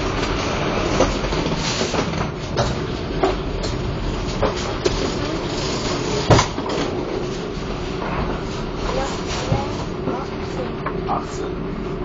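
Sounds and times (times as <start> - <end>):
train cabin hum: 0.0 - 12.0.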